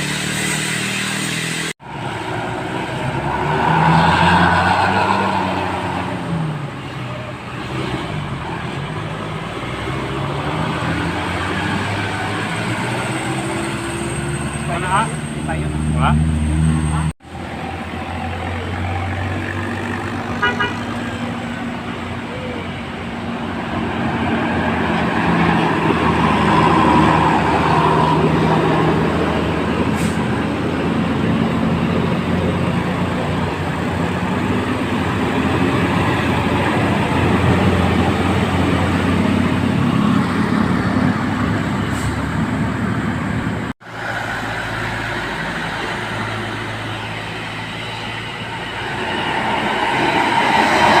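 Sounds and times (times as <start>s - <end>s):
road traffic noise: 0.0s - 51.0s
bus engine running: 5.0s - 51.0s.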